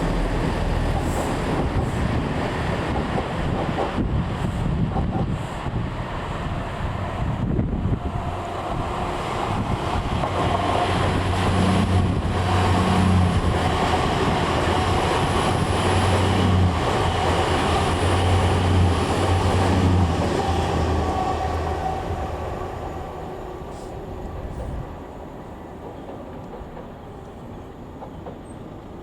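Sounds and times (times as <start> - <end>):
diesel train engines humming: 0.0 - 29.0.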